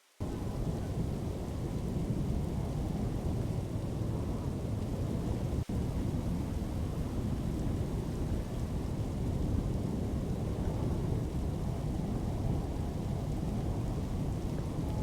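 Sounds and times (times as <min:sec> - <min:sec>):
rain: 0:00.0 - 0:15.0
storm rumble: 0:00.2 - 0:15.0.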